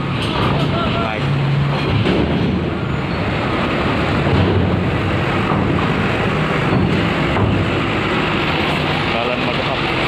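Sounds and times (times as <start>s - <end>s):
bus diesel engine rumbling: 0.0s - 10.0s.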